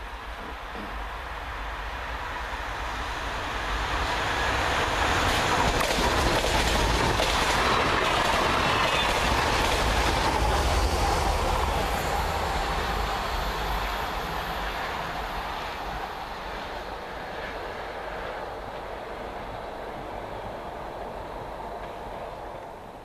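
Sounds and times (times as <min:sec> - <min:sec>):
electric train passing at speed: 0:00.0 - 0:23.0.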